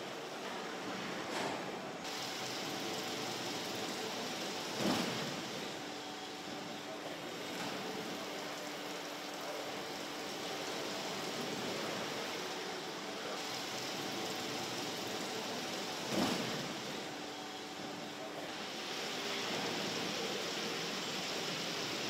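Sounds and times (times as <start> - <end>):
factory hall hiss: 0.0 - 22.0.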